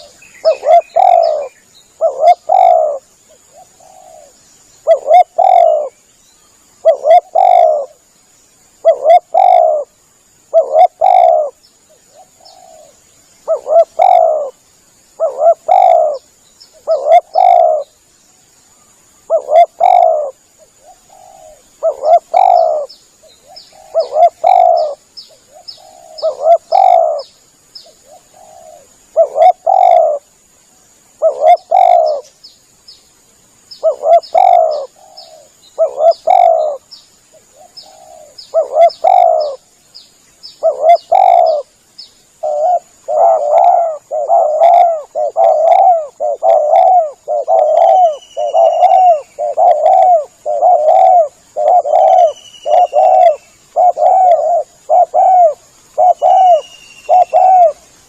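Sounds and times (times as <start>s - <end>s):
dove cooing: 0.0s - 6.0s, 6.8s - 8.0s, 8.8s - 9.9s, 10.5s - 14.6s, 15.2s - 17.9s, 19.2s - 27.3s, 28.0s - 30.2s, 31.2s - 32.3s, 33.8s - 39.6s, 40.6s - 41.7s, 42.4s - 57.8s
small birds chirping: 0.0s - 58.0s.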